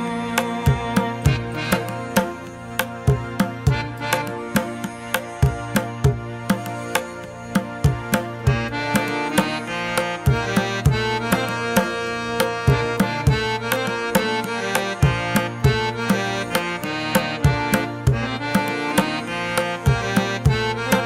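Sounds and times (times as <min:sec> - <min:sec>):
sustained melodic tones: 0:00.0 - 0:21.0
steady drum beat: 0:00.5 - 0:19.2.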